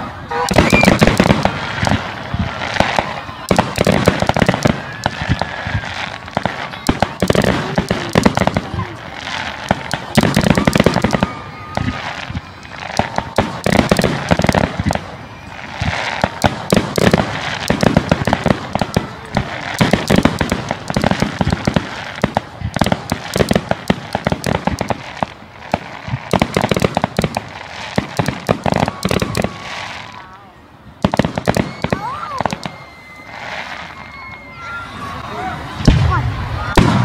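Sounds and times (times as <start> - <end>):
fireworks bangs: 0.0 - 37.0
fireworks crackling and popping: 0.0 - 37.0.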